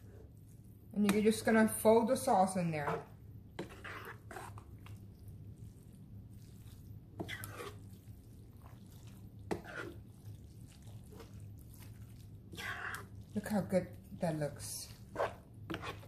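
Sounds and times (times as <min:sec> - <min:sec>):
low steady hum: 0:00.0 - 0:16.0
wet squelching of pasta stirred: 0:00.0 - 0:16.0.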